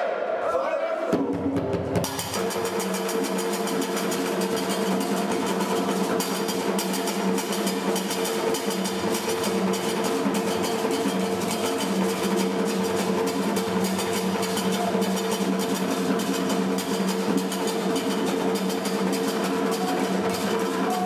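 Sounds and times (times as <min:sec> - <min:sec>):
wooden hand drums playing: 0:01.1 - 0:21.0.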